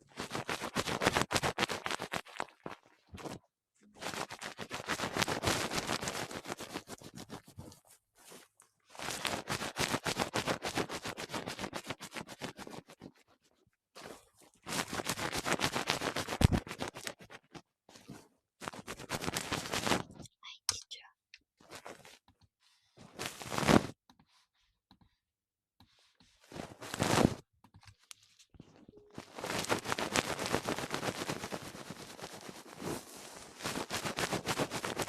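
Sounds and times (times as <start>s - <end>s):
close rustling and scratching: 4.0s - 20.3s, 21.0s - 25.2s, 25.8s - 35.0s.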